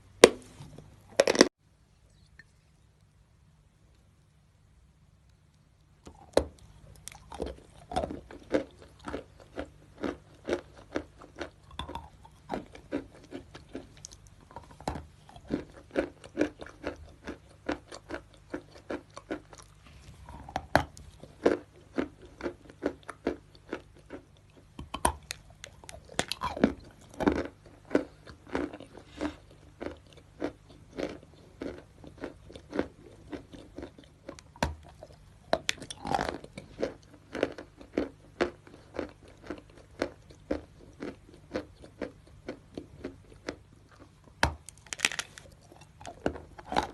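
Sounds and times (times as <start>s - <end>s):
person biting and chewing chalk: 6.1s - 46.9s.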